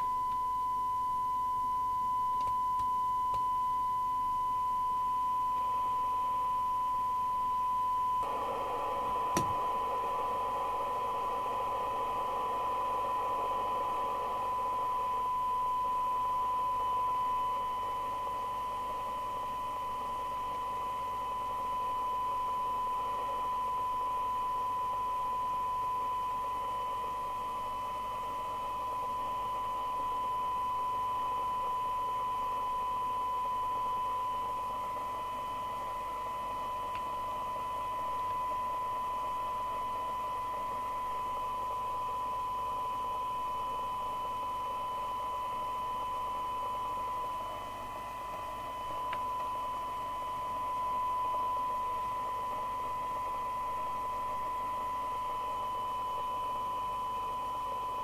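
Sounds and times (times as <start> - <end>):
steady pure test tone: 0.0 - 58.0.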